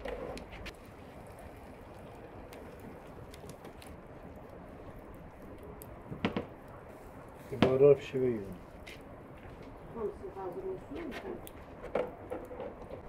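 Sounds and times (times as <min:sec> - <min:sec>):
grill hissing and crackling: 0:00.0 - 0:13.0.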